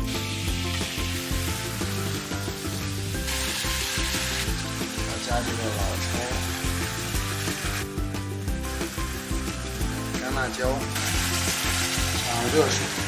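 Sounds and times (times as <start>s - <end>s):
fish sizzling in frying pan: 0.0s - 13.0s
wine poured into hot pan: 0.0s - 13.0s.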